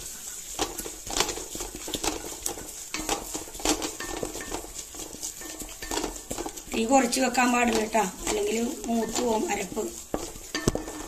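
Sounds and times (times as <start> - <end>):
metal spoon scraping metal pan: 0.4 - 11.0.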